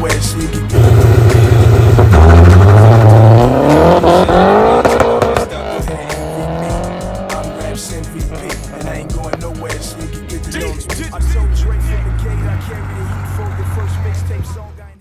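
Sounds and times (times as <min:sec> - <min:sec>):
car engine accelerating hard: 0:00.0 - 0:15.0
music: 0:00.0 - 0:15.0.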